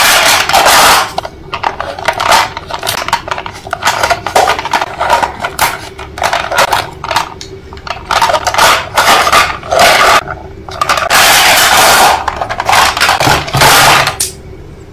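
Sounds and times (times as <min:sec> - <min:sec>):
small hard objects clattering: 0:00.0 - 0:14.3.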